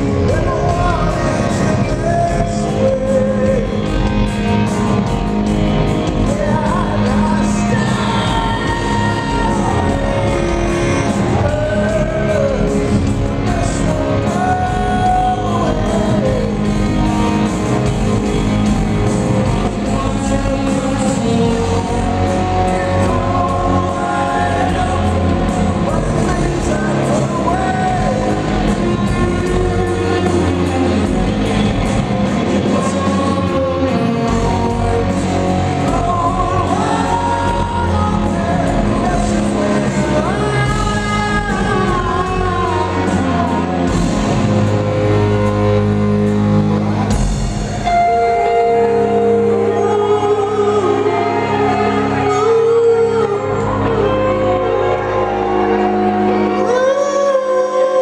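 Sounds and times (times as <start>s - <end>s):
person singing lead vocal: 0.0s - 46.6s, 47.8s - 58.0s
bass: 0.0s - 58.0s
drums: 0.0s - 58.0s
electric guitars: 0.0s - 58.0s.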